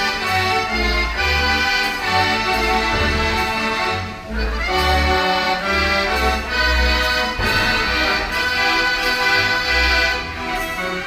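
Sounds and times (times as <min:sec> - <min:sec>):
dance organ playing a tune: 0:00.0 - 0:11.0.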